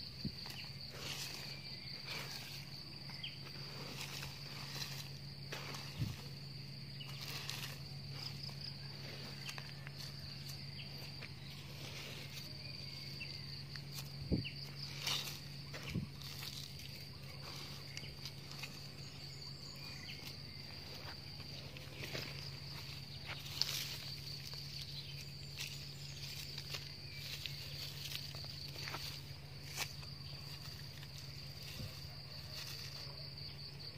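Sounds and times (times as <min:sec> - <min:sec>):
insect trilling: 0:00.0 - 0:33.9
soil being handled: 0:00.0 - 0:33.9
steady low hum: 0:00.0 - 0:33.9.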